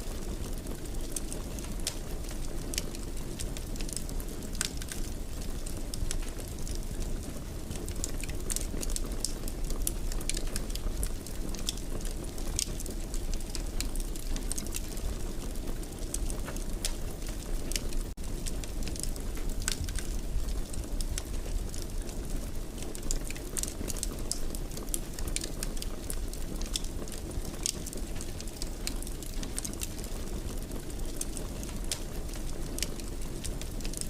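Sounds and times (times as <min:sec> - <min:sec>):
low rush of flames: 0:00.0 - 0:34.0
wood fire popping and snapping: 0:00.0 - 0:34.0.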